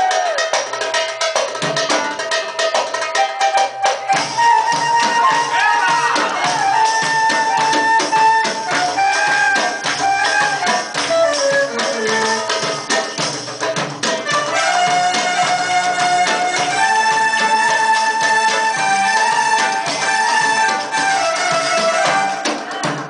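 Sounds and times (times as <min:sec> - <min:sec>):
hand percussion beat: 0:00.0 - 0:23.0
melody on qanun and keyboard: 0:00.4 - 0:23.0.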